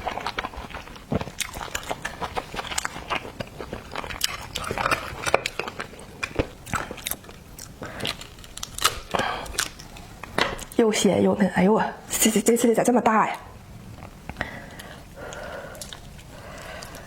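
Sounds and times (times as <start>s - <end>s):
wet chewing and smacking: 0.0s - 10.8s, 13.9s - 17.0s.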